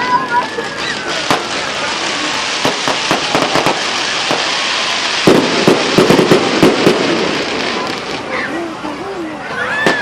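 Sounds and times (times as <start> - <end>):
fireworks bangs: 0.0 - 8.6, 9.7 - 10.0
fireworks crackling: 0.0 - 10.0.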